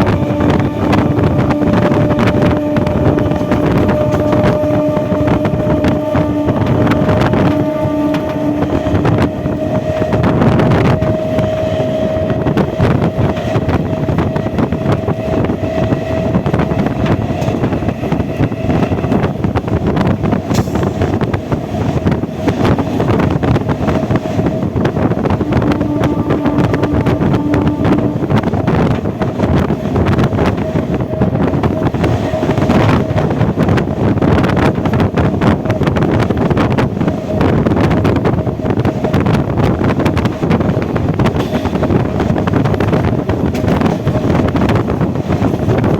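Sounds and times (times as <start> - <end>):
electric train whine: 0.0 - 45.9
train wheels rattling on rails: 0.0 - 45.9
wind buffeting microphone: 0.0 - 45.9.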